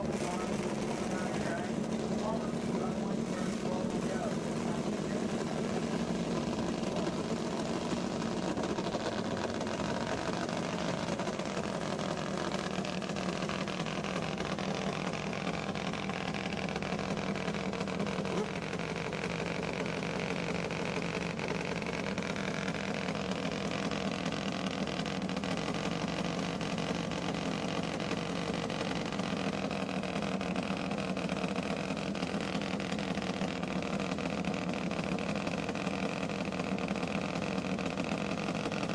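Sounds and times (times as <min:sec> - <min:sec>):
motorcycle engines idling: 0:00.0 - 0:38.9.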